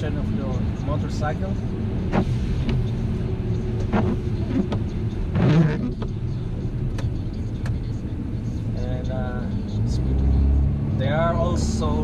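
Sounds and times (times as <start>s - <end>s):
road vehicle rumble: 0.0s - 12.0s.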